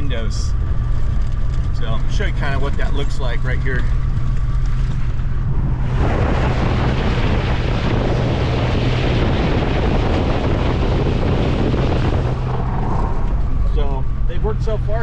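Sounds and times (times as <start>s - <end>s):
truck engine drone: 0.0s - 15.0s
wind and road noise rushing: 0.0s - 15.0s.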